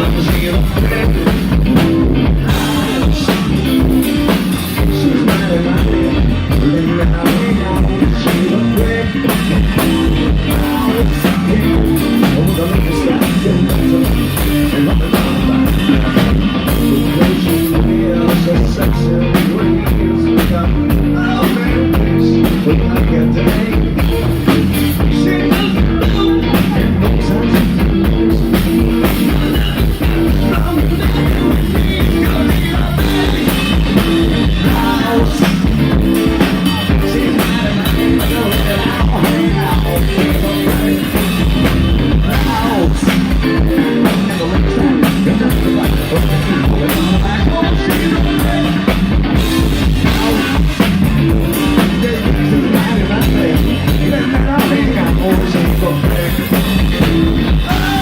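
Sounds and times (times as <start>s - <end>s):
person singing: 0.0s - 58.0s
rock band playing: 0.0s - 58.0s.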